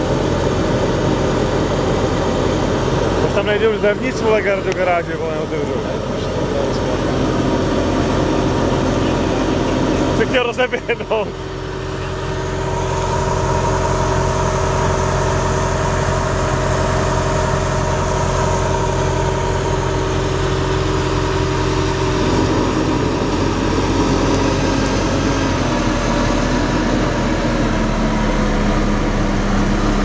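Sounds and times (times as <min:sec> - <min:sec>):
fire engine engine humming: 0:00.0 - 0:30.0.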